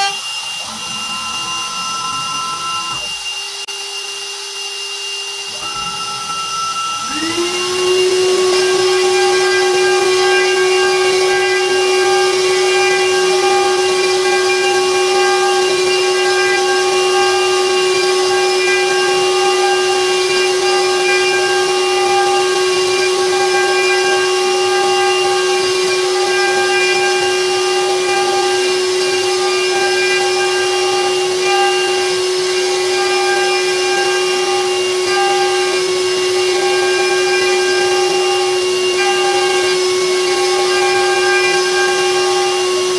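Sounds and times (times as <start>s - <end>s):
router spindle high whine: 0.0s - 42.9s
hiss of cutting wood: 7.0s - 42.9s.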